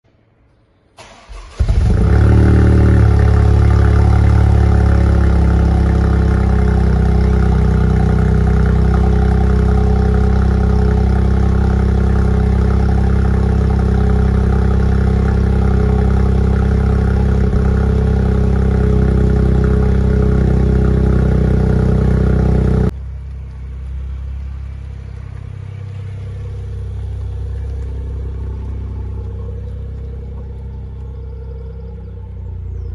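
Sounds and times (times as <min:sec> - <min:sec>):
car engine starting and idling: 0:00.8 - 0:32.9.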